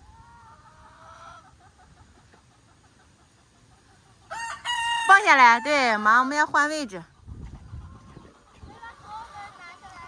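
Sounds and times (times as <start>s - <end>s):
chickens calling: 0.0s - 10.0s.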